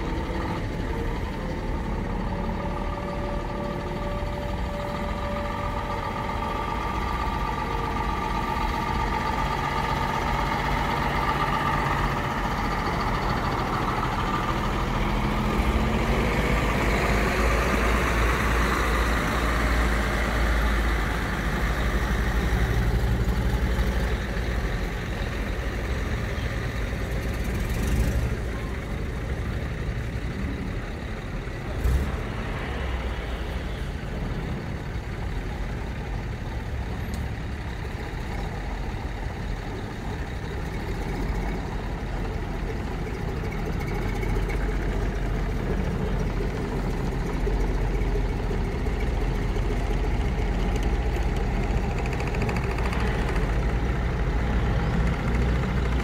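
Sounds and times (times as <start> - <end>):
heavy diesel lorry engines: 0.0 - 56.0.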